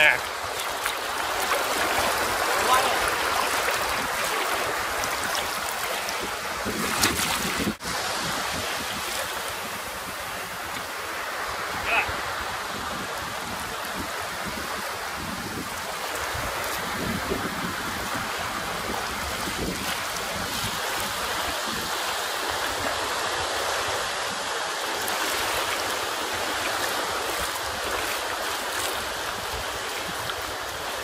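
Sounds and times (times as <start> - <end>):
surf washing onto beach: 0.0 - 31.0.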